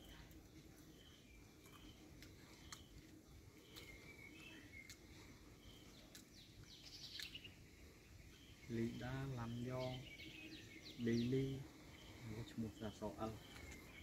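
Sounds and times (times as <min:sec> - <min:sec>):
faint high bird chirps: 0:00.0 - 0:14.0.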